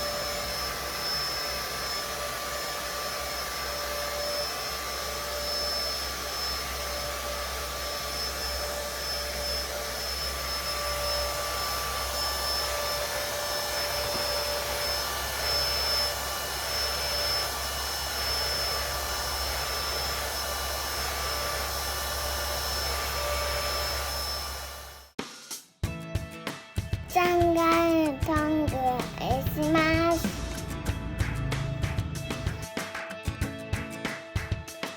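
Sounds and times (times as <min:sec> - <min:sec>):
vacuum cleaner running: 0:00.0 - 0:25.2, 0:28.4 - 0:34.9.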